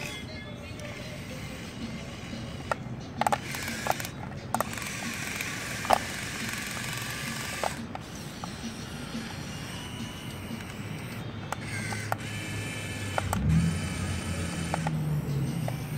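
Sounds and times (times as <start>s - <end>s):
small electric motors whirring: 0.0s - 15.9s.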